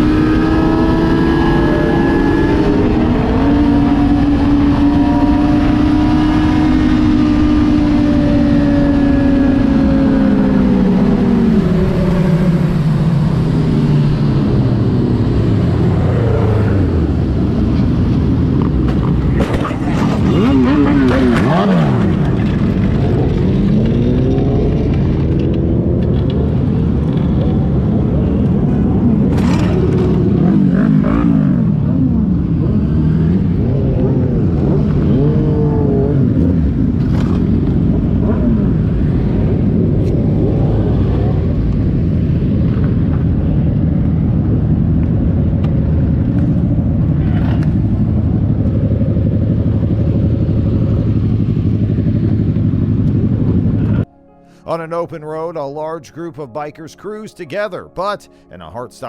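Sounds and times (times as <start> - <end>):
motorcycle engines revving: 0.0 - 54.1.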